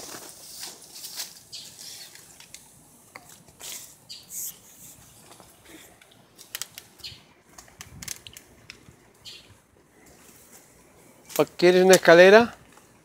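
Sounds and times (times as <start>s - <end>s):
fern fronds rustling: 0.0s - 13.0s.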